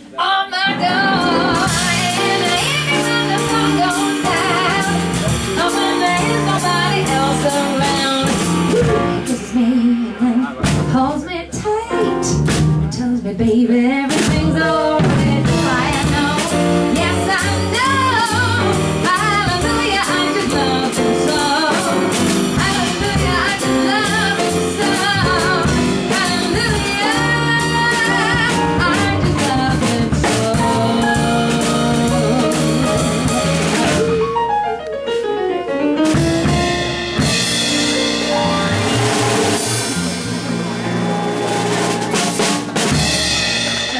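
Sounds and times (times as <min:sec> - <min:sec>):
drum kit: 0:00.0 - 0:43.9
live band playing rhythm and blues: 0:00.0 - 0:43.9.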